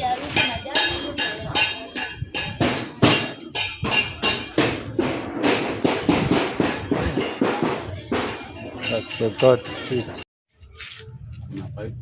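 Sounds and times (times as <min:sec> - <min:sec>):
sharp rhythmic knocks: 0:00.1 - 0:10.2.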